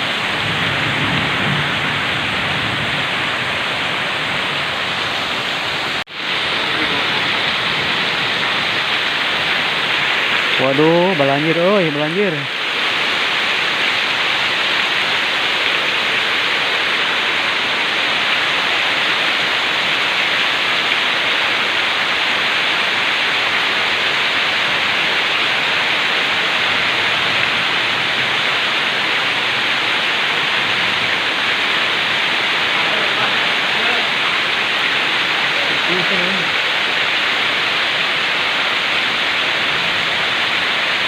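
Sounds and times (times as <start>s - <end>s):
heavy rain hissing: 0.0s - 41.0s.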